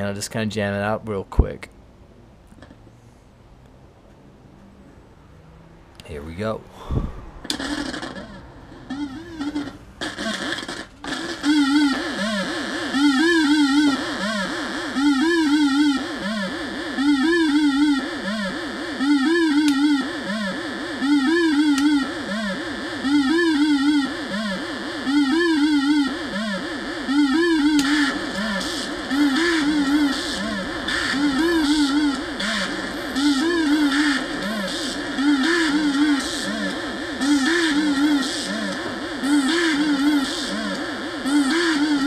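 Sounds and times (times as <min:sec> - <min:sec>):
looping electronic synth notes: 0:07.4 - 0:42.0.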